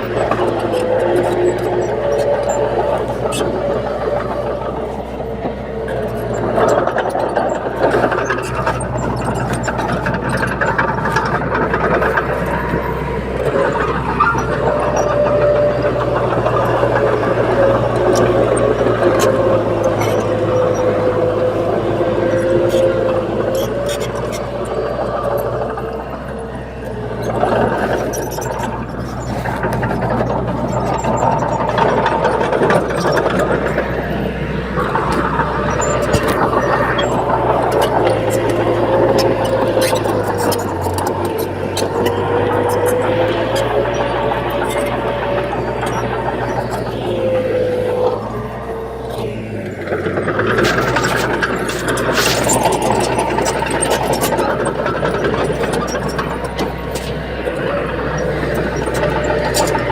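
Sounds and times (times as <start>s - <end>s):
bulldozer diesel engine: 0.0s - 59.9s
metallic clanking of tracks: 0.0s - 59.9s.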